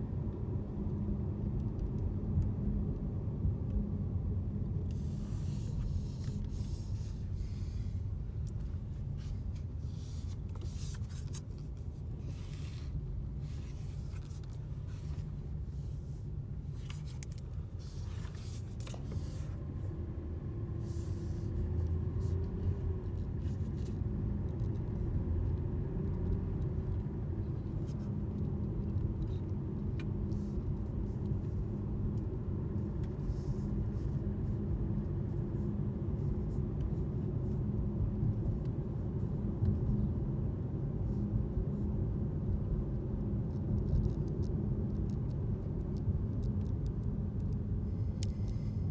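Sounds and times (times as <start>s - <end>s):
faint steady hum: 0.0s - 48.9s
road and tyre rumble: 0.0s - 48.9s.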